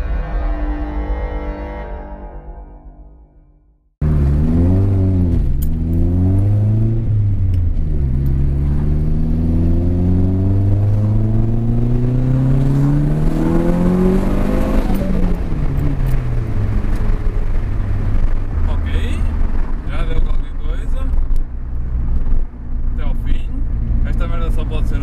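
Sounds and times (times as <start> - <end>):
car engine revving: 4.0 - 25.0.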